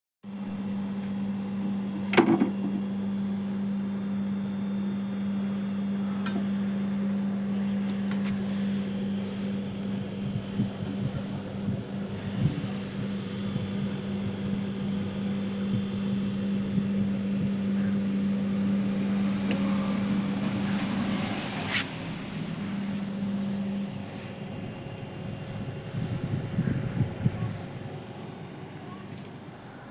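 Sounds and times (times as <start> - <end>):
refrigerator compressor humming: 0.3 - 29.9.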